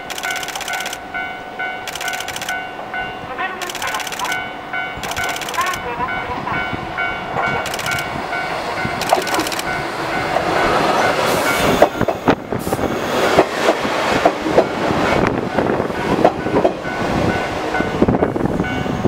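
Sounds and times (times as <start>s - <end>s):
electric train rolling past: 0.0s - 19.0s.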